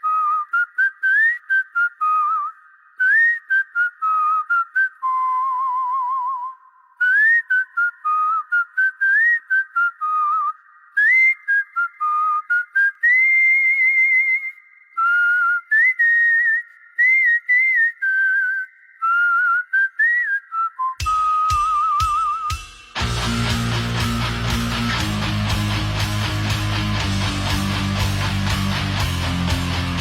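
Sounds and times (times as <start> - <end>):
person whistling a tune: 0.0 - 30.0.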